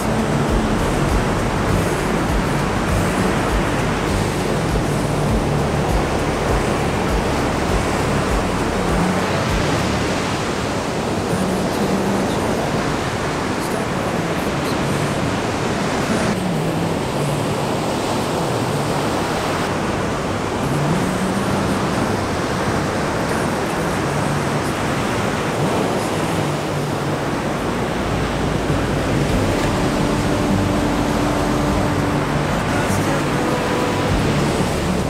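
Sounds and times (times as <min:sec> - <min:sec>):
ocean waves breaking on beach: 0:00.0 - 0:35.0.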